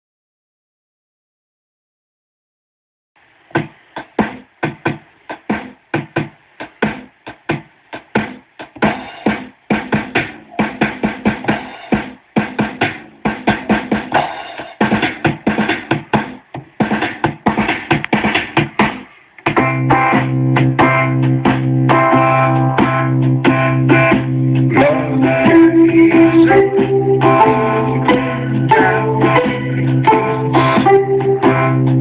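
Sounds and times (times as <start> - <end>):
instrumental music with sharp beat: 3.2 - 32.0.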